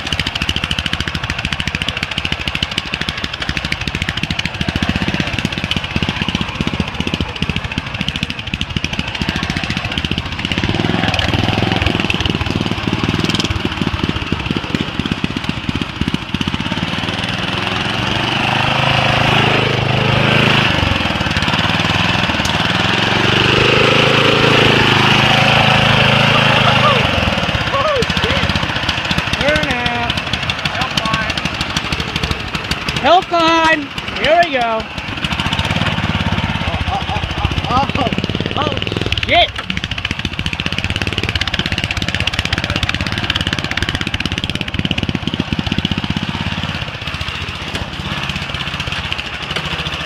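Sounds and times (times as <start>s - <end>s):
lawn mower engine running: 0.0s - 50.0s.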